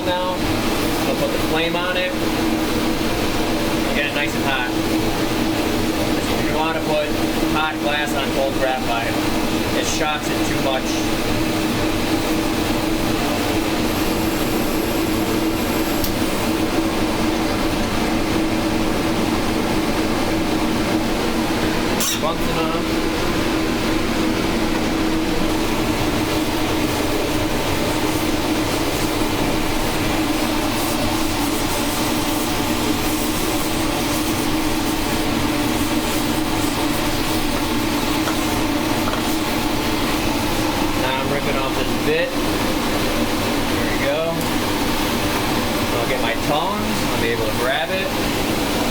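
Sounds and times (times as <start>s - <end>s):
steady hum: 0.0s - 48.9s
torch flame roaring: 0.0s - 48.9s.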